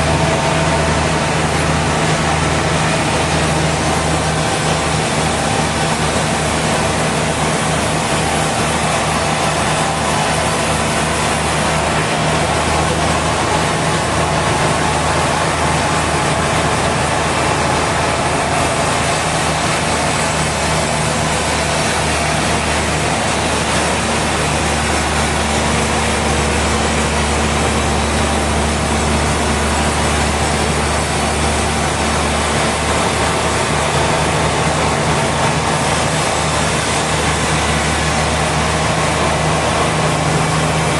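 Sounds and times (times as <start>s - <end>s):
low engine hum: 0.0s - 40.9s.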